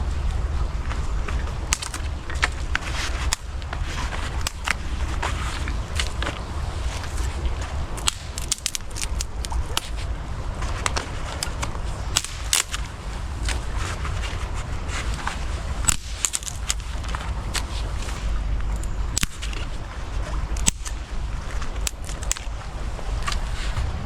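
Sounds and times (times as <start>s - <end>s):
steady low rumble: 0.0s - 24.0s
twigs snapping: 1.5s - 19.8s, 20.4s - 23.4s.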